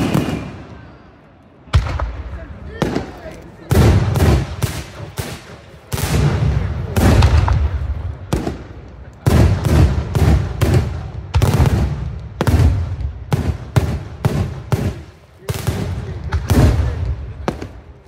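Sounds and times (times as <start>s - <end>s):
fireworks bangs with crackle: 0.0s - 0.8s, 1.7s - 18.0s.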